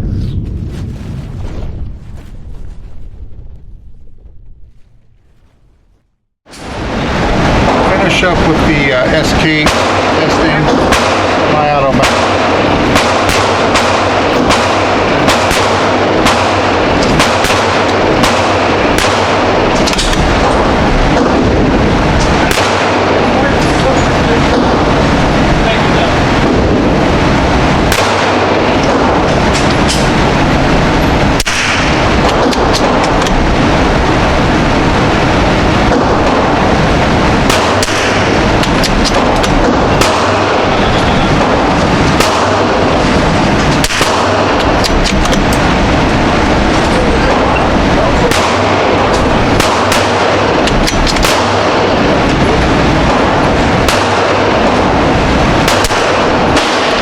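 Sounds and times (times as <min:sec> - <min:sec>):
loud steady rushing noise: 0:06.5 - 0:57.0
gunshots: 0:07.4 - 0:57.0.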